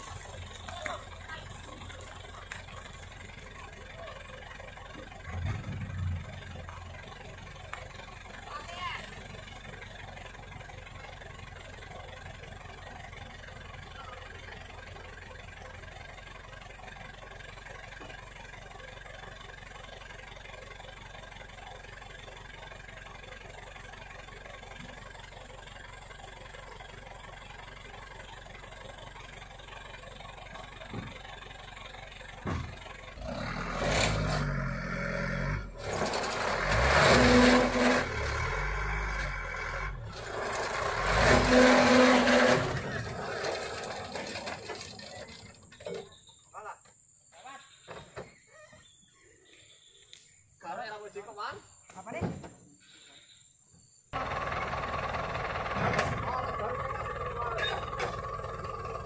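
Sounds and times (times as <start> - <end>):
truck engine idling and revving: 0.0 - 46.4, 54.1 - 59.0.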